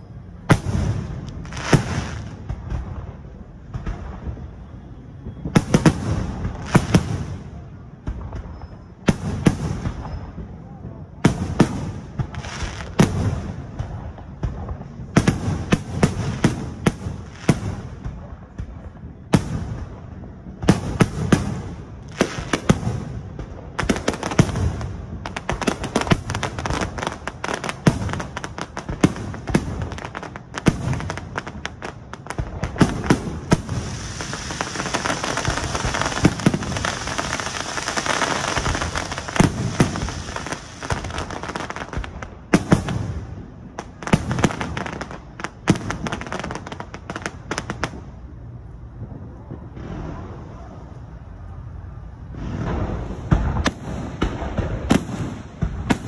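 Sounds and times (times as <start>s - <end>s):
fireworks bursting with bangs: 0.0s - 51.4s, 52.1s - 56.0s
dense fireworks hiss: 0.0s - 56.0s.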